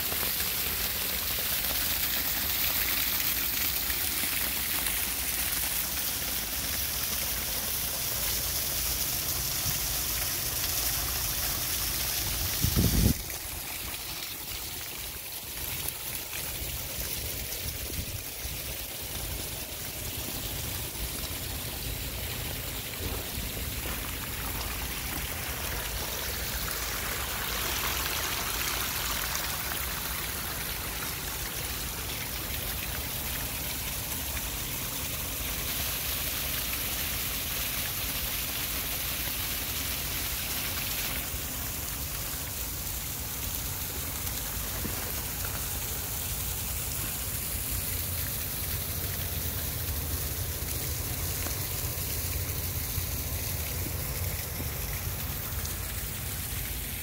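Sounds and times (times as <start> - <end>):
waterfall splashing over rocks: 0.0 - 57.0.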